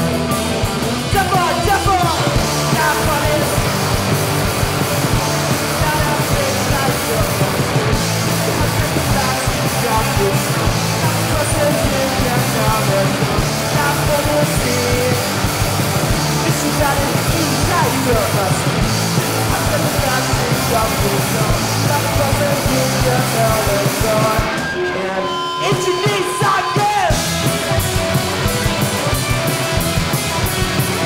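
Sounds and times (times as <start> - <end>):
lead singer singing: 0.0 - 27.8
bass guitar: 0.0 - 31.0
drums: 0.0 - 31.0
electric guitars: 0.0 - 31.0.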